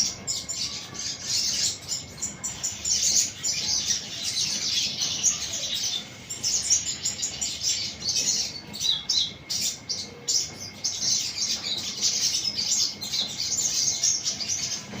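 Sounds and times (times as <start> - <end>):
bird twittering: 0.0 - 15.0.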